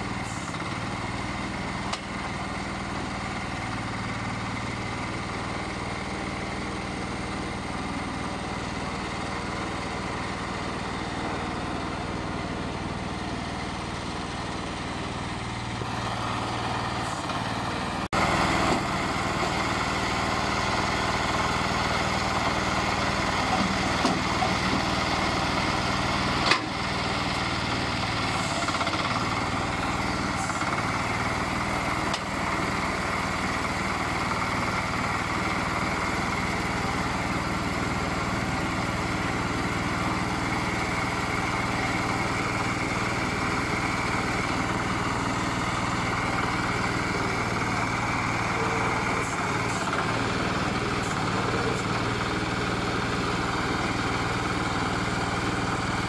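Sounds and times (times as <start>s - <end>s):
small diesel engine running: 0.0s - 56.0s.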